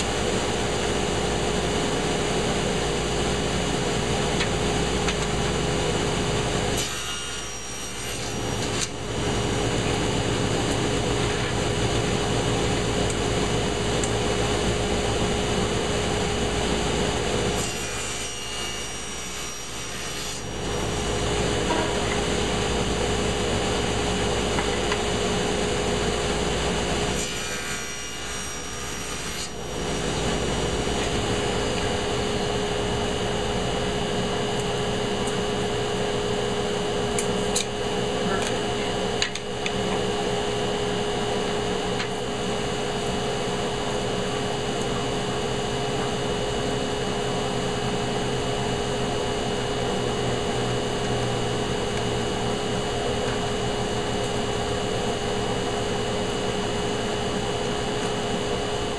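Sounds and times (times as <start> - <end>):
table saw cutting wood: 0.0 - 58.9.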